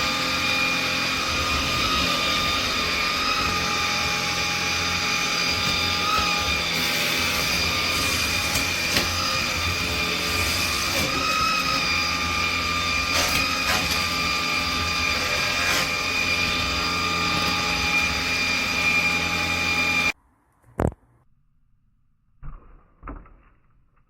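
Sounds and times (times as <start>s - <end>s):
vacuum cleaner motor whine: 0.0s - 20.2s.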